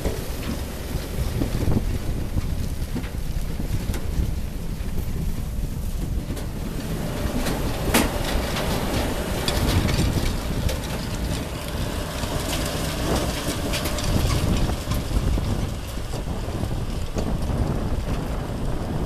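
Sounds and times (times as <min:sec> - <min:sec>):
harvester engine rumbling: 0:00.0 - 0:19.0.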